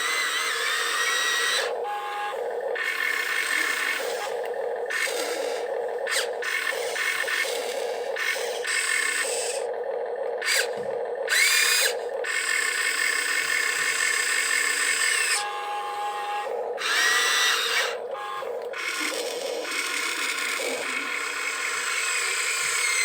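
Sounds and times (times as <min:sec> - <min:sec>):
small electric motors whining: 0:00.0 - 0:23.0.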